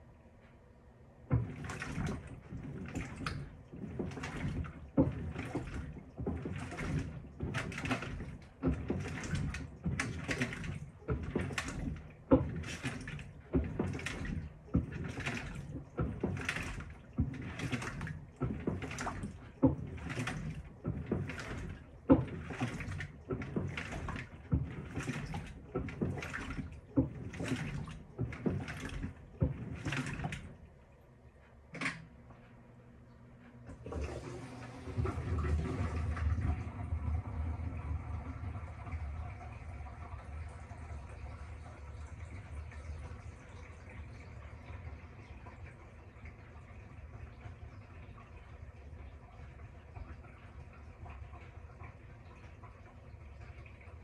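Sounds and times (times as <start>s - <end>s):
washing machine swishing water: 0.0s - 54.0s.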